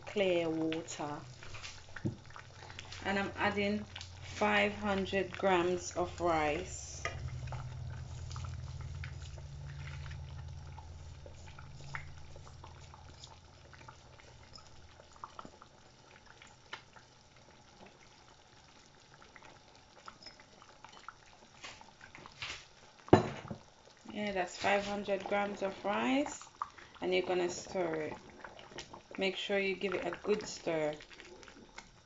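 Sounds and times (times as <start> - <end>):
sauce bubbling: 0.0 - 32.0.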